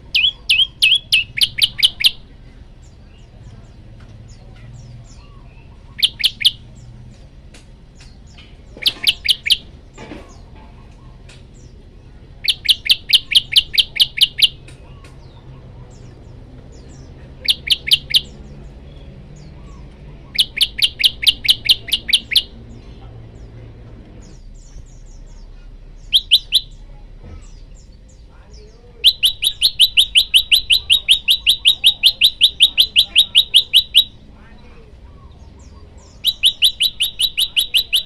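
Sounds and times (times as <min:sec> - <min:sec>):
bird singing rapid high notes: 0:00.0 - 0:07.0, 0:08.0 - 0:10.5, 0:11.1 - 0:23.6, 0:24.2 - 0:38.0.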